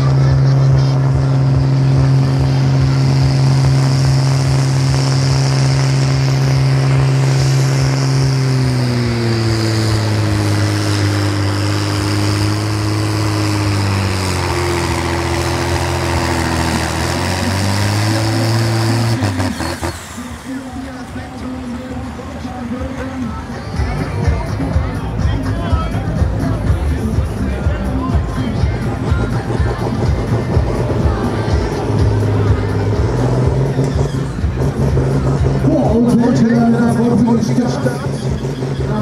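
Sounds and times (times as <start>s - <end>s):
tractor engine under load: 0.0s - 39.0s.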